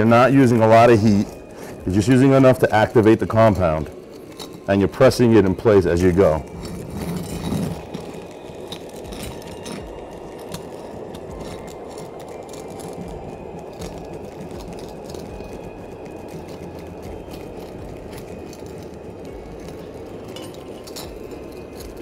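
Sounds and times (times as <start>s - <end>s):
hand roller clicks and crackles: 0.0s - 22.0s
hot air blower running: 0.0s - 22.0s.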